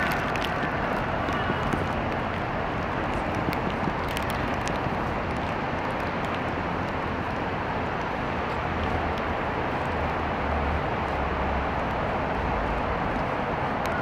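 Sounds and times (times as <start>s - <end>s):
rain on stone paving: 0.0s - 14.0s
wind buffeting microphone: 0.0s - 14.0s.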